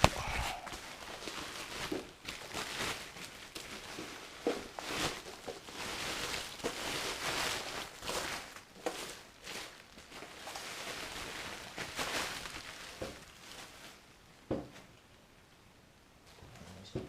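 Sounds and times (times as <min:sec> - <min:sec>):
packaging wrap crackling: 0:00.0 - 0:15.0.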